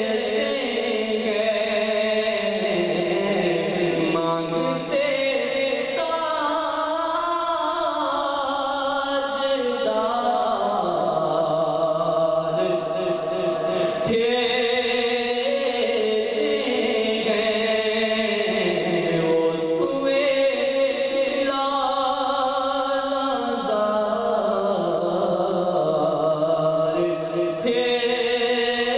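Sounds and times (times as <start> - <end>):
man singing into a microphone: 0.0 - 28.9.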